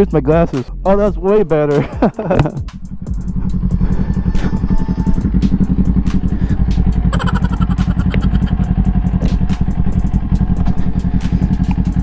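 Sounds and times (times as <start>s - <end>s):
motorcycle engine running: 2.0s - 12.0s.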